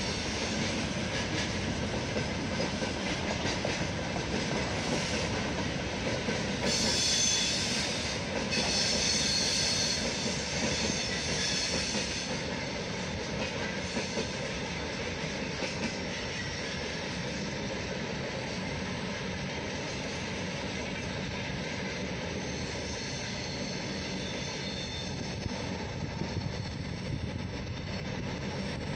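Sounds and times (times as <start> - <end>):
freight train wagons rumbling: 0.0 - 28.9
wheels screeching on rails: 4.3 - 17.8, 18.4 - 28.9.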